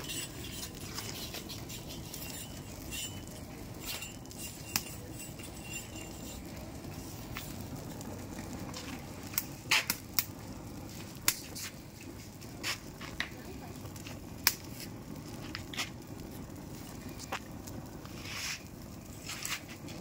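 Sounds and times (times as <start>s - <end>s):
fire crackling pops: 0.0s - 20.0s
wood fire flame rushing: 0.0s - 20.0s.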